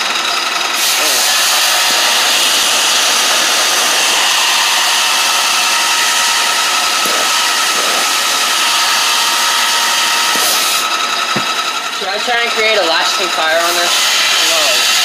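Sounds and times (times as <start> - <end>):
blowtorch hissing: 0.6 - 15.0.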